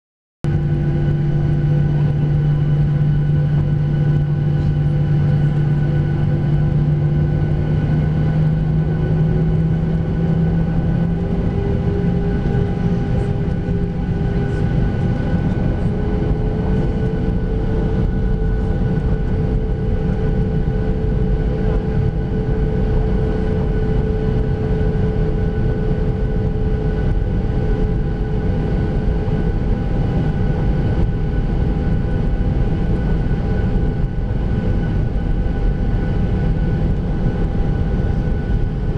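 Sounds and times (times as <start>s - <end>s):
aeroplane engines roaring: 0.5s - 38.9s
rising engine whine: 0.5s - 38.9s.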